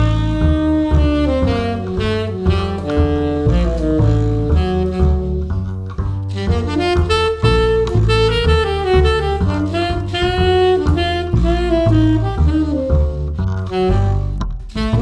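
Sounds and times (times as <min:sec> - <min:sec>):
instrumental jazz ballad: 0:00.0 - 0:15.0.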